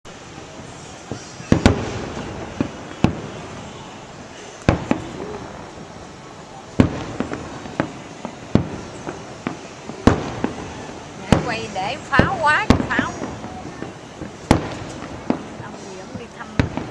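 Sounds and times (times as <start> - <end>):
fireworks bursting: 0.0 - 16.9.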